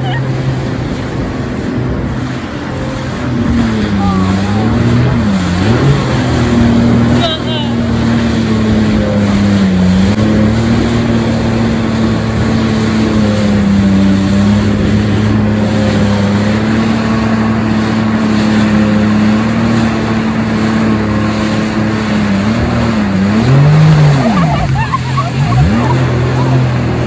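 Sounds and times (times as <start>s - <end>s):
jet ski engine: 0.0s - 27.0s
wind and water spray rushing: 0.0s - 27.0s.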